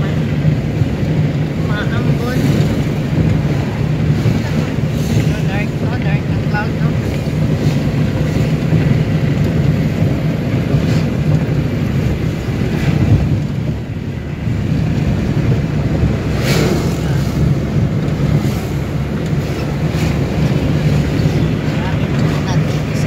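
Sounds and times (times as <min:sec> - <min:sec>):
road and engine drone in car: 0:00.0 - 0:23.0
wind buffeting microphone: 0:00.0 - 0:23.0.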